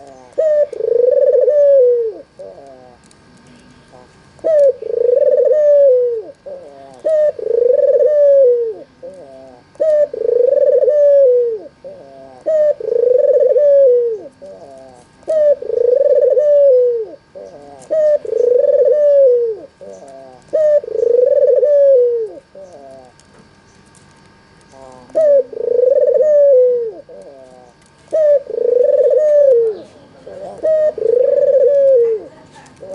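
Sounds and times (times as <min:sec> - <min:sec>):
dove cooing: 0:00.0 - 0:03.1, 0:03.9 - 0:23.2, 0:24.6 - 0:32.9.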